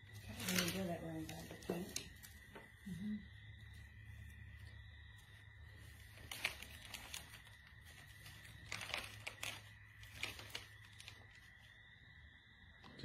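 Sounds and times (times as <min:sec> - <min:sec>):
crinkling rustles: 0:00.0 - 0:11.8.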